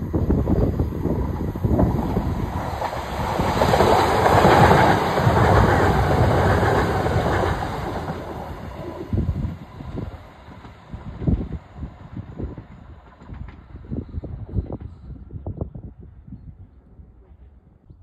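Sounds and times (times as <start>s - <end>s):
train passing on rails: 0.0s - 16.2s.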